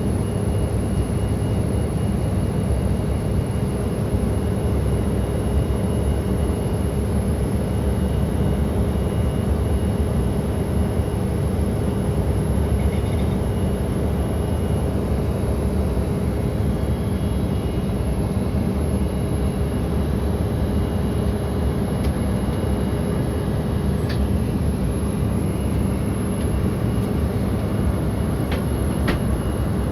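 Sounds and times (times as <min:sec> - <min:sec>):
airflow and jet engines rushing: 0:00.0 - 0:29.9.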